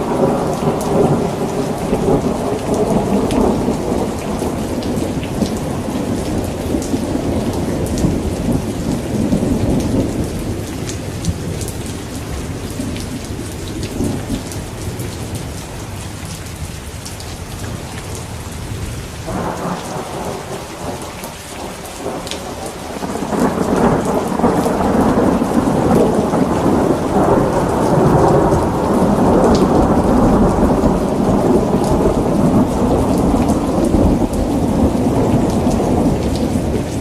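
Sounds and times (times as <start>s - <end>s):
thunder rumbling: 0.0s - 16.7s, 17.6s - 37.0s
heavy rain: 0.0s - 37.0s.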